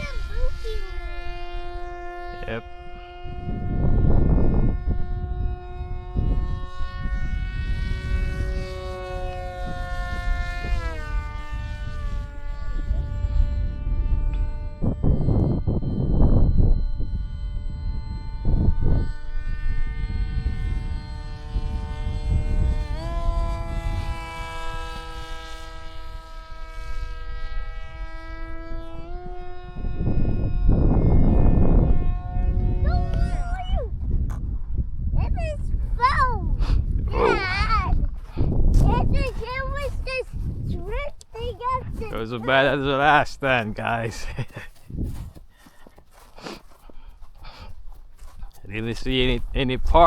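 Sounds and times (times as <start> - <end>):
model plane motor whining: 0.0 - 50.0
wind rumbling on microphone: 0.0 - 50.0.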